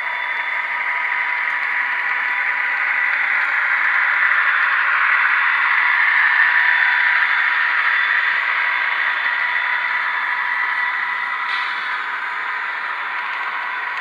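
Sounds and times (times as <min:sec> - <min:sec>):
faint steady whine: 0:00.0 - 0:14.0
model train wheels whirring: 0:00.0 - 0:14.0.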